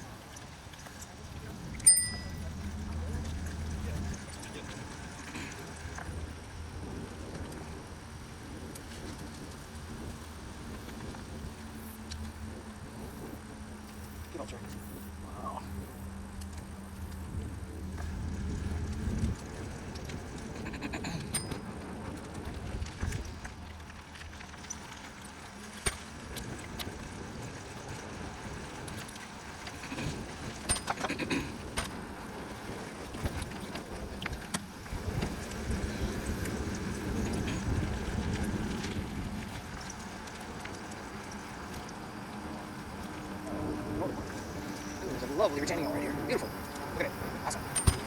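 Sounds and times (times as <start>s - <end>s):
wind on microphone: 0.0s - 24.3s, 25.6s - 48.0s
bike clicks and rattles: 0.0s - 48.0s
tyres rolling on path: 0.0s - 48.0s.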